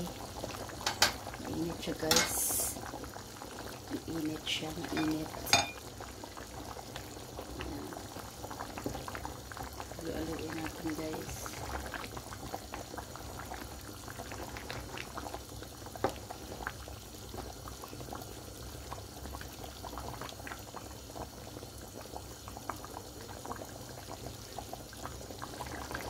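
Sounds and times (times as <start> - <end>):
stew bubbling in a pot: 0.0 - 26.0.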